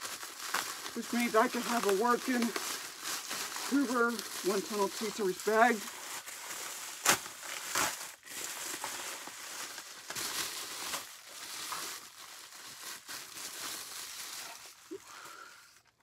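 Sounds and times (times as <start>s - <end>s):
packing material crinkling: 0.0s - 16.0s.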